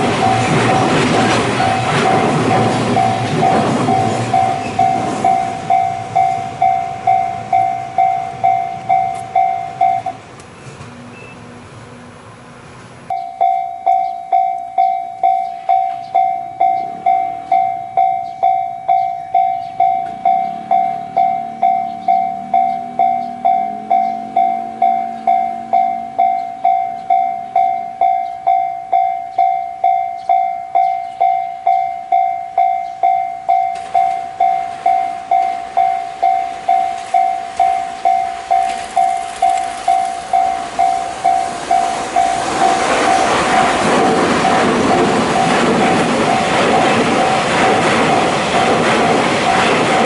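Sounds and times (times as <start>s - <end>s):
level-crossing warning bell: 0.0s - 10.2s, 13.1s - 50.0s
train cars and wheels passing: 0.0s - 50.0s.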